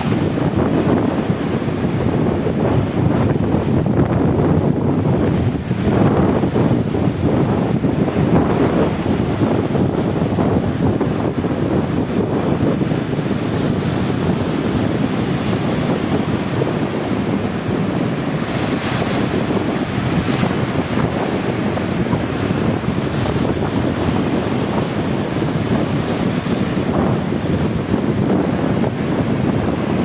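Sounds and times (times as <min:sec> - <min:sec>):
sea waves washing: 0:00.0 - 0:30.0
wind buffeting microphone: 0:00.0 - 0:30.0.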